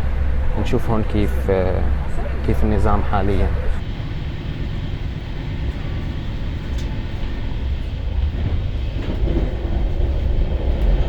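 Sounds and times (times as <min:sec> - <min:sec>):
train carriage rumble: 0:00.0 - 0:11.0.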